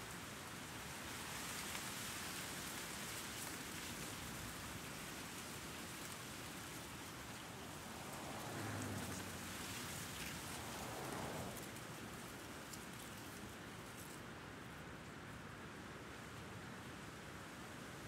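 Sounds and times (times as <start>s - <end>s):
light city noise: 0.0s - 18.0s
steady breeze: 0.0s - 18.0s.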